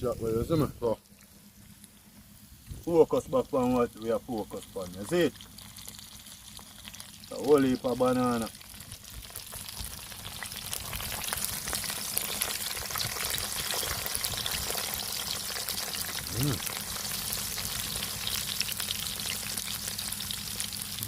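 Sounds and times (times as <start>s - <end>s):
food sizzling in hot oil: 3.7s - 21.0s.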